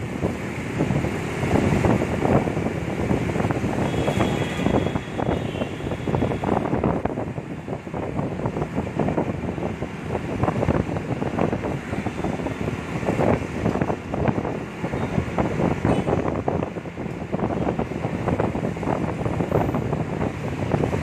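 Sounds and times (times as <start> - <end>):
road traffic: 0.0 - 21.0
wind buffeting microphone: 0.0 - 21.0.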